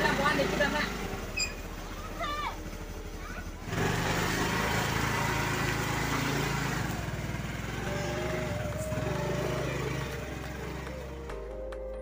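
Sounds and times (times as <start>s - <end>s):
scooter engine running: 0.0s - 11.9s.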